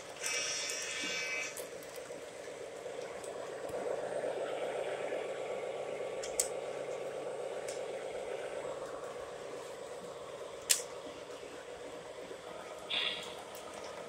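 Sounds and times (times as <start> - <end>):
model trains whirring: 0.0 - 14.0.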